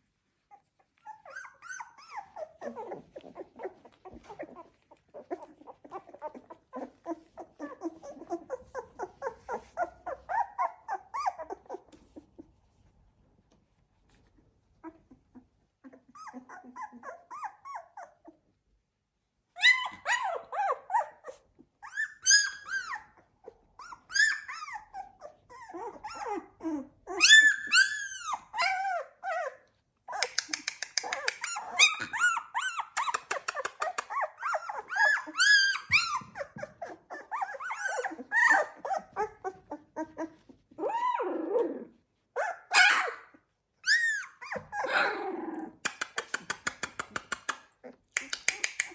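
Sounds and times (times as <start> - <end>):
puppies yipping and squeaking: 0.3 - 12.9, 14.1 - 18.6, 19.5 - 45.2.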